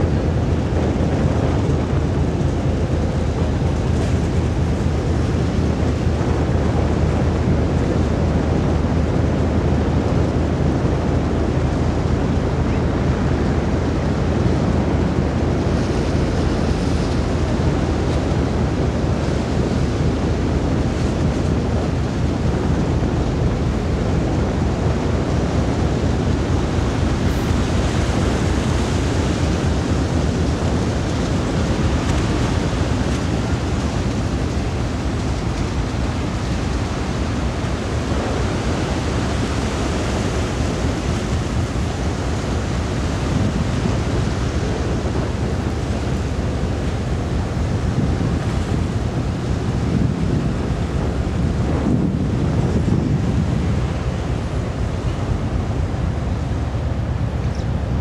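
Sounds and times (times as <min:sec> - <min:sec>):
low ship rumble: 0:00.0 - 0:58.0
water churning along hull: 0:00.0 - 0:58.0
wind buffeting microphone: 0:00.0 - 0:58.0.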